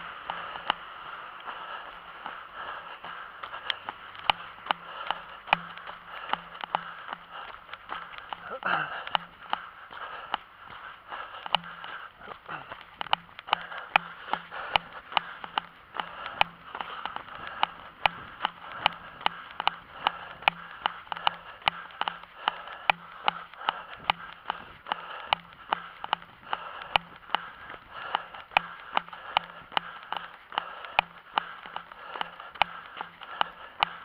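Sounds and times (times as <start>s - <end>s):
running footsteps on pavement: 0.0s - 34.0s.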